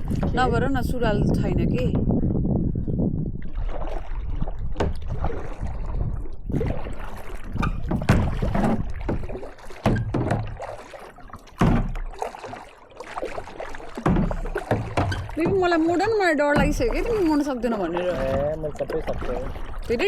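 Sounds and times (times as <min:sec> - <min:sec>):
water splashing off paddles: 0:00.0 - 0:02.0, 0:03.3 - 0:20.0
paddle knocking kayak: 0:00.0 - 0:20.0.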